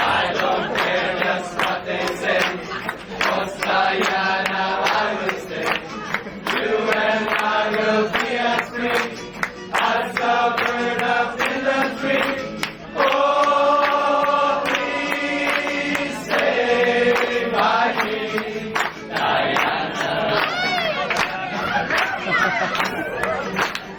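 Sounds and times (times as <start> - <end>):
group singing in chorus: 0.0 - 23.9.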